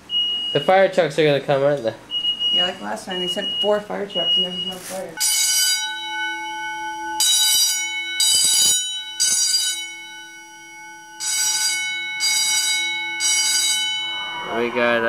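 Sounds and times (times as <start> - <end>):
steady alarm tone: 2.0 - 15.0
fire alarm bell ringing: 2.1 - 15.0.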